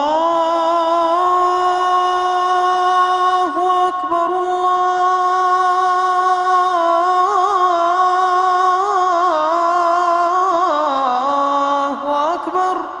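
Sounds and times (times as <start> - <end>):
person singing slow melody: 0.0 - 13.0.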